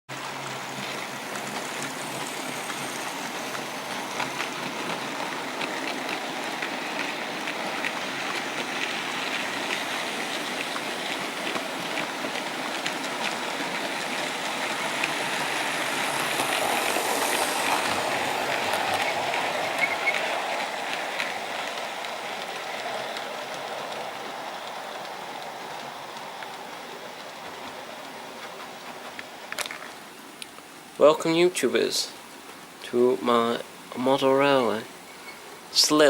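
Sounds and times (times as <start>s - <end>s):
model train rushing: 0.1s - 36.0s
wheels clicking on track: 0.1s - 36.0s.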